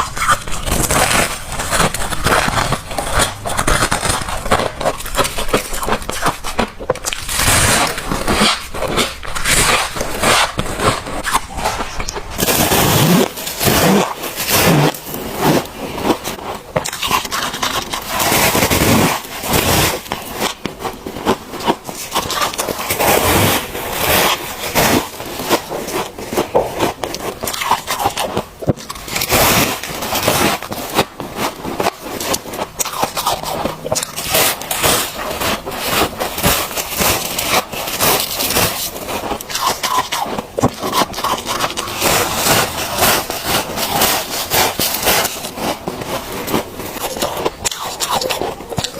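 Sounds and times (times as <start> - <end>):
frost being chewed: 0.0 - 48.9.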